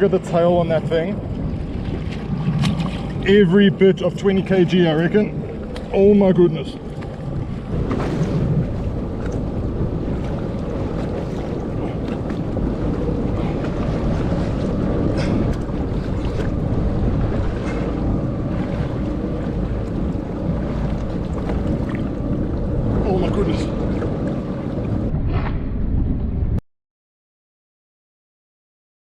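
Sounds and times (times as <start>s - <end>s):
small boat on water: 0.0s - 26.6s
wind buffeting microphone: 0.0s - 26.6s.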